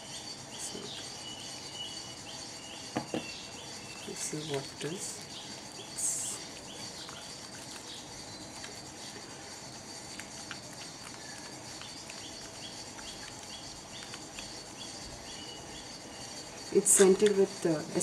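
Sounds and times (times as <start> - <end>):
background chirping: 0.0 - 18.0.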